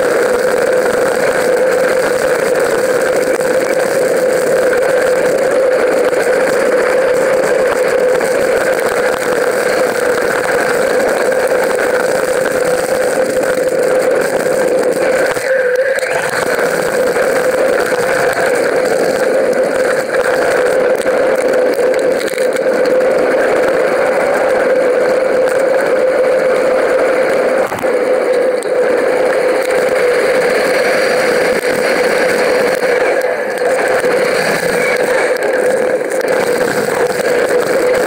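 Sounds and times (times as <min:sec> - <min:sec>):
bike rolling noise: 0:00.0 - 0:38.0.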